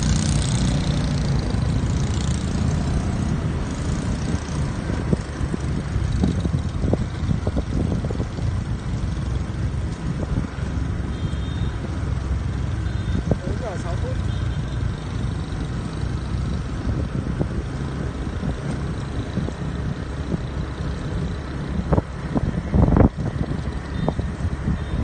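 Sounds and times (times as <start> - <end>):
wind rumble on microphone: 0.0 - 13.8, 15.6 - 25.0
motorbike engines running: 0.0 - 25.0.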